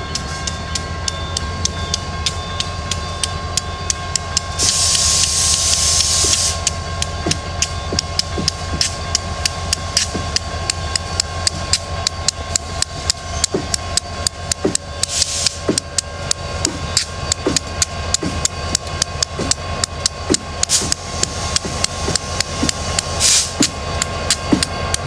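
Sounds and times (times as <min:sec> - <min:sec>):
locomotive rumbling: 0:00.0 - 0:25.0.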